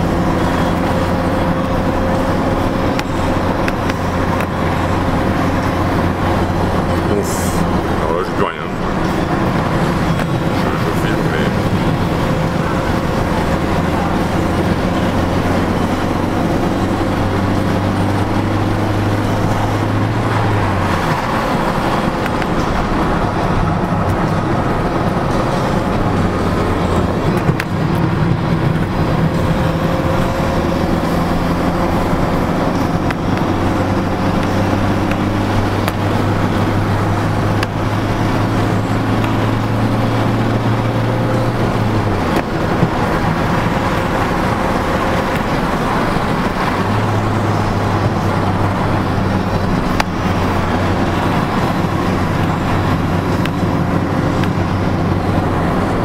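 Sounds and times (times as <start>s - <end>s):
diesel engine pulling under load: 0.0s - 56.0s
tyre and road noise: 0.0s - 56.0s.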